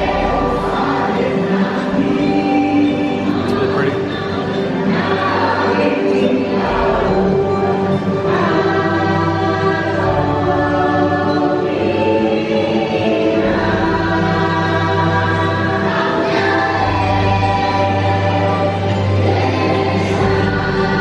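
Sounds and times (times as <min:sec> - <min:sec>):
choral singing: 0:00.0 - 0:21.0.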